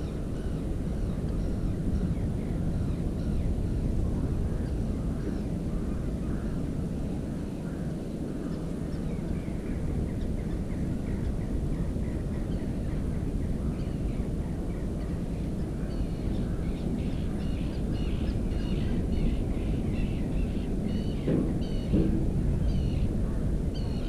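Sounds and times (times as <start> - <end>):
low rushing microphone noise: 0.0 - 24.0.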